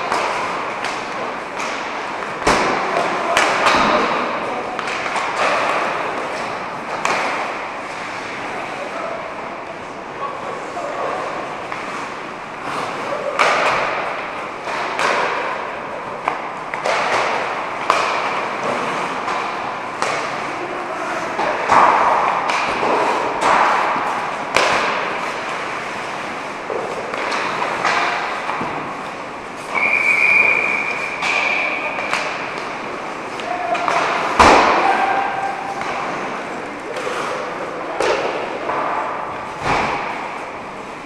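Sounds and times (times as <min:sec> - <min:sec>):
skates scraping ice: 0:00.0 - 0:09.0, 0:09.8 - 0:41.0
pucks and sticks clacking: 0:00.0 - 0:41.0.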